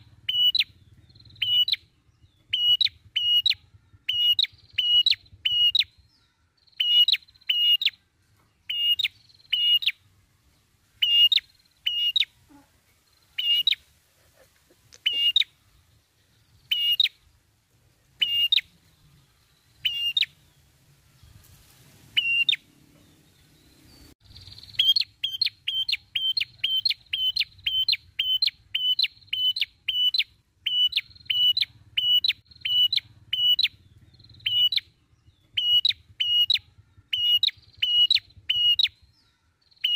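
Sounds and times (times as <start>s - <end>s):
bird chirping sharply: 0.2s - 8.0s, 8.6s - 10.1s, 11.0s - 12.4s, 13.2s - 13.8s, 15.0s - 15.9s, 16.5s - 17.2s, 18.2s - 19.1s, 19.7s - 20.6s, 22.2s - 39.9s.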